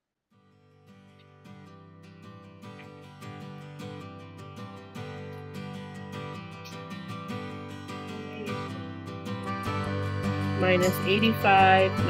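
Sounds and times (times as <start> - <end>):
strummed acoustic guitar: 0.4 - 12.0.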